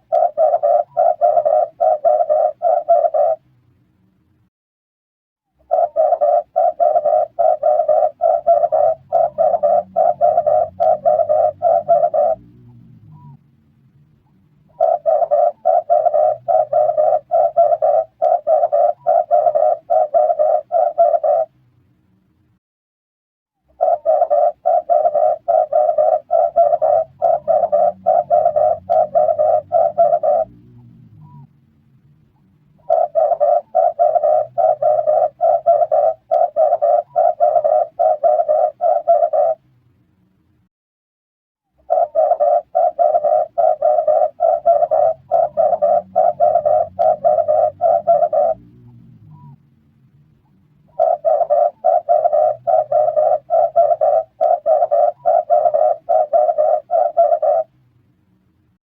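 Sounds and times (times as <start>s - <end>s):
dove cooing: 0.0s - 3.4s, 5.6s - 13.4s, 14.7s - 21.5s, 23.7s - 31.5s, 32.8s - 39.6s, 41.8s - 49.6s, 50.9s - 57.7s.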